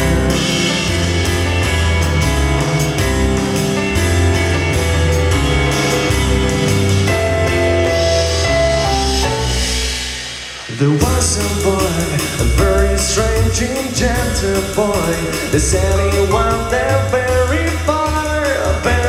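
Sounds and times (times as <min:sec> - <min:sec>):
live band playing instrumental: 0:00.0 - 0:19.0.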